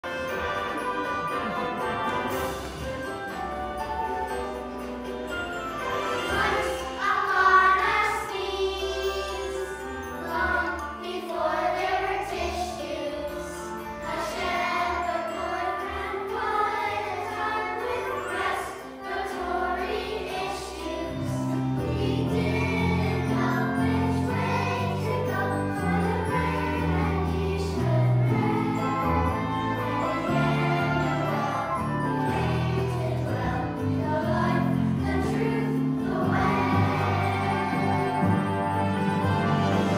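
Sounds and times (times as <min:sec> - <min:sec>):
choir singing: 0:00.0 - 0:39.9
instrumental accompaniment: 0:00.0 - 0:39.9.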